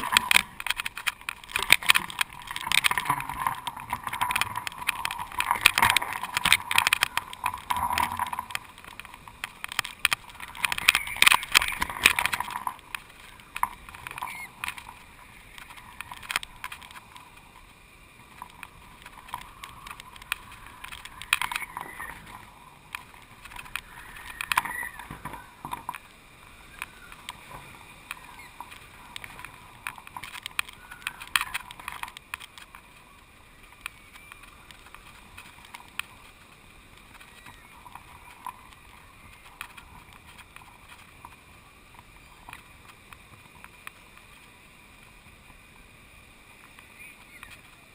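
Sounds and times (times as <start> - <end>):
kite rig rattling and flapping: 0.0 - 47.9
wind buffeting camera: 0.0 - 47.9.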